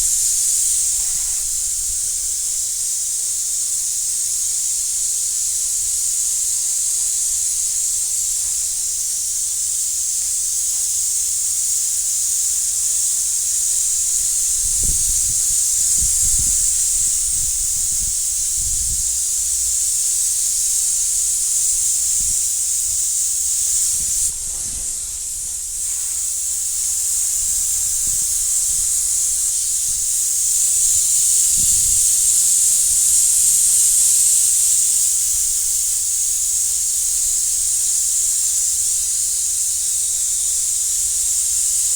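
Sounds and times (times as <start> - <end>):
paint spray gun hissing: 0.0 - 3.7, 11.2 - 41.3.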